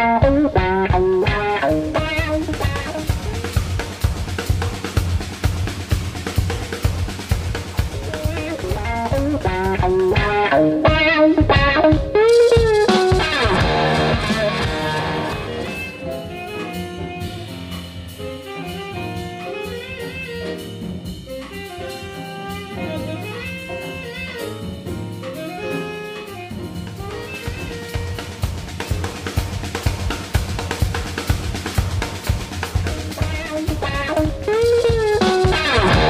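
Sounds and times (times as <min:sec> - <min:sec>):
instrumental music: 0:00.0 - 0:36.0.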